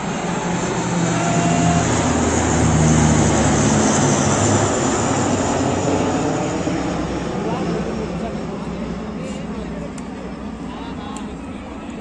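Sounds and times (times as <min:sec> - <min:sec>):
turboprop aircraft passing overhead: 0:00.0 - 0:12.0.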